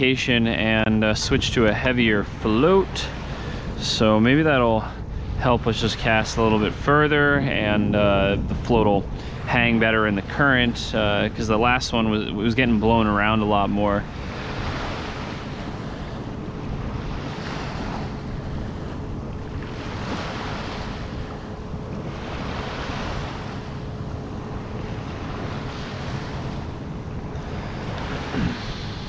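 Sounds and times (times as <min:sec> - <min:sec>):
small waves washing onto beach: 0:00.0 - 0:29.0
wind buffeting microphone: 0:00.0 - 0:29.0.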